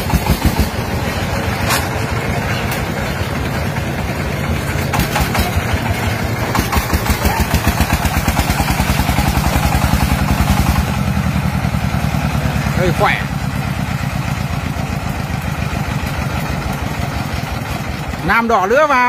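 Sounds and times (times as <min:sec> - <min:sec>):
diesel engine thudding: 0:00.0 - 0:19.0.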